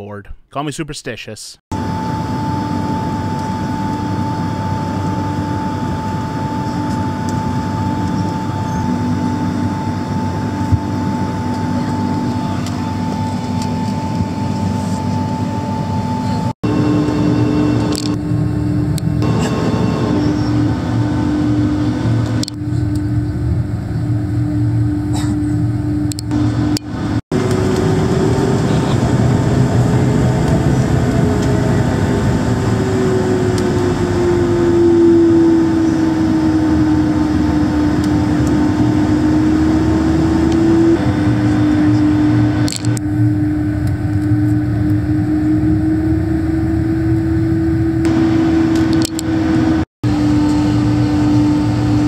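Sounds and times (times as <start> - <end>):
airliner cabin rumble: 1.7 - 52.0
constant engine whine: 1.7 - 52.0.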